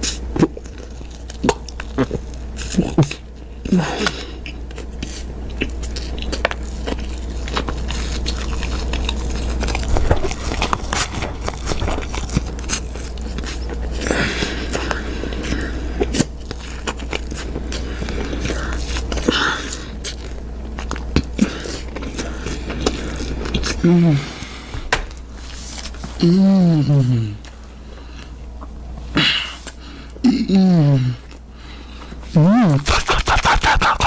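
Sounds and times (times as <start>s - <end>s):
biting and chewing soap: 0.0s - 26.2s, 31.2s - 34.0s.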